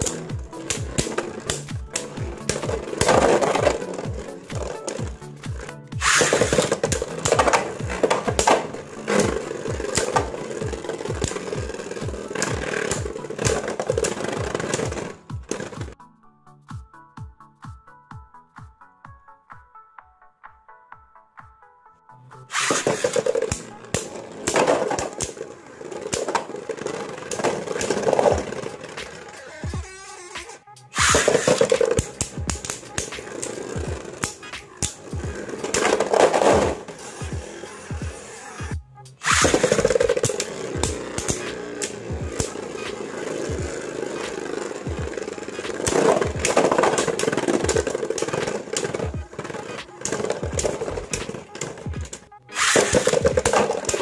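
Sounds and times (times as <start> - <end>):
spinning tops clacking: 0.0 - 16.0, 22.5 - 54.0
spinning tops whirring and scraping: 0.0 - 16.0, 22.5 - 54.0.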